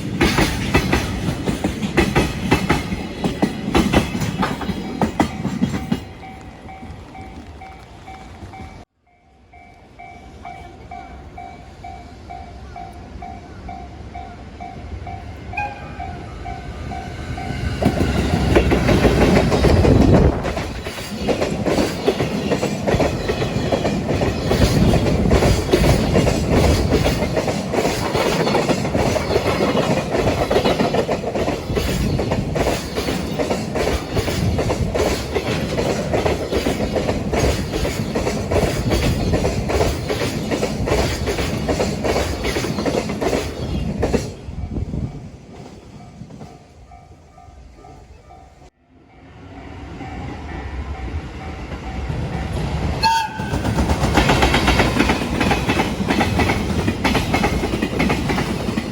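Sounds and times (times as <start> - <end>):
train wheels clattering on rails: 0.0 - 8.9, 16.6 - 47.0, 51.0 - 58.9
freight train passing: 0.0 - 58.9.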